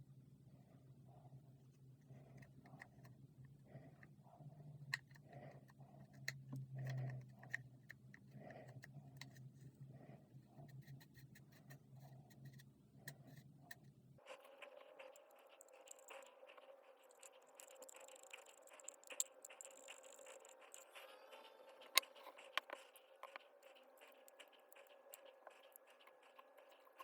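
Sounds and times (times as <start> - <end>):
faint clicks and light taps: 1.6 - 21.0, 21.7 - 27.0.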